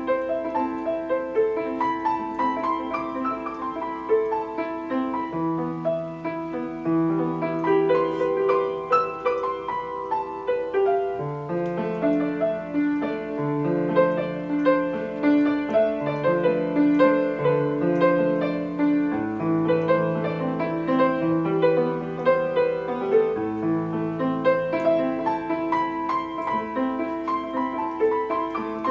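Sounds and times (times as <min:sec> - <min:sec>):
classical piano piece: 0:00.0 - 0:28.9.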